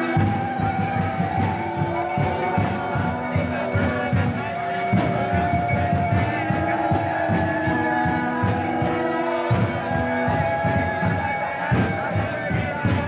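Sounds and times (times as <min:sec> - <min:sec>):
group chanting: 0:00.0 - 0:13.0
jingling hand cymbals: 0:00.0 - 0:13.0
quick drum beat: 0:00.0 - 0:13.0.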